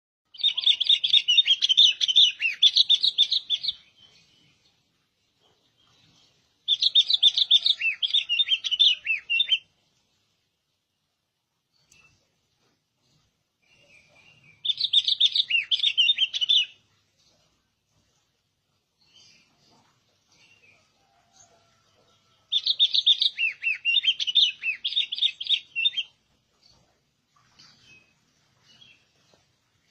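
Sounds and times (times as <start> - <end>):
bird chirping: 0.3 - 9.8, 11.7 - 12.4, 13.1 - 18.2, 18.9 - 29.9.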